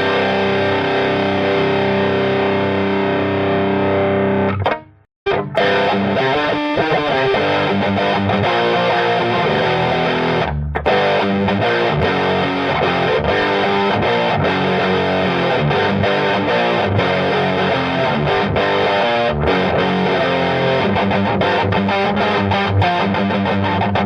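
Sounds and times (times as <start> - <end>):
distorted electric guitar lead: 0.0 - 24.0.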